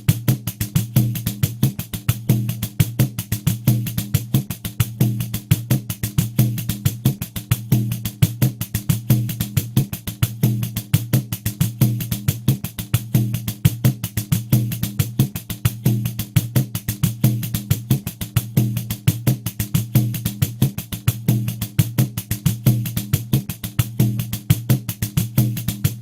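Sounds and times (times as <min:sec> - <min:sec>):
frame drum with jingles: 0:00.0 - 0:26.0.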